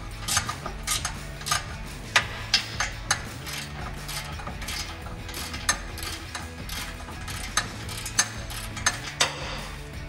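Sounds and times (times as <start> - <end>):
wrench clicking on metal nut: 0.1 - 9.7.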